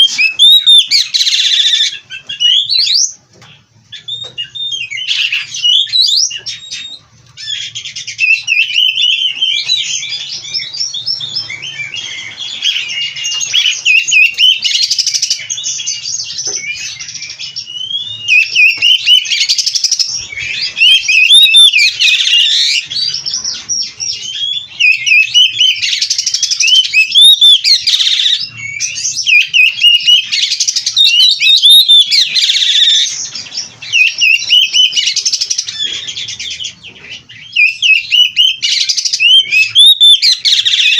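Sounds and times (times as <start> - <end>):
bird singing whistles and chatter: 0.0 - 40.9.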